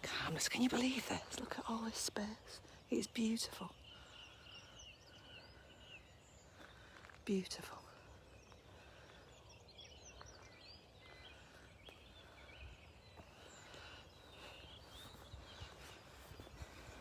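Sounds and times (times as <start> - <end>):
distant songbirds chirping: 0.0 - 17.0.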